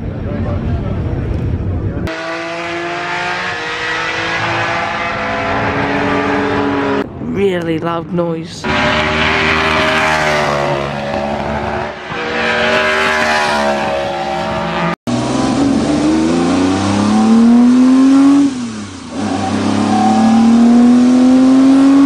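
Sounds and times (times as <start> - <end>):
racing car engine at high revs: 2.0 - 7.0, 8.6 - 22.0
racing engine accelerating hard: 2.1 - 7.0, 8.6 - 22.0.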